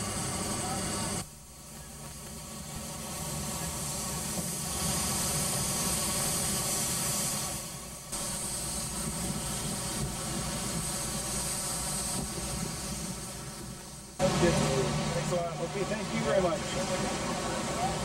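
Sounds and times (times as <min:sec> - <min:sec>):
fire hose spraying water: 0:00.0 - 0:18.0
low engine hum: 0:00.0 - 0:18.0.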